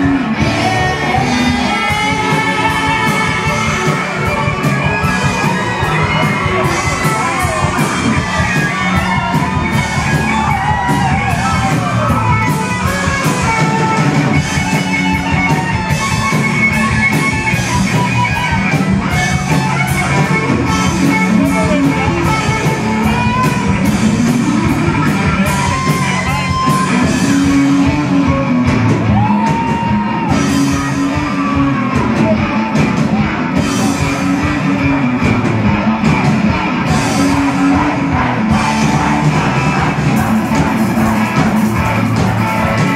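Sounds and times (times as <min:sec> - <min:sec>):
bass guitar: 0:00.0 - 0:42.9
distorted electric guitars: 0:00.0 - 0:42.9.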